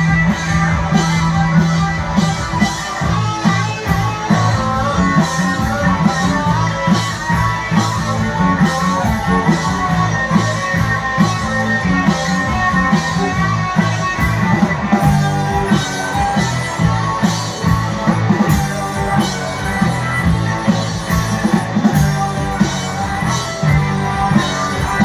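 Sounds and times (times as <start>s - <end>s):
drums keeping steady beat: 0.0s - 25.0s
electric guitar: 0.0s - 25.0s.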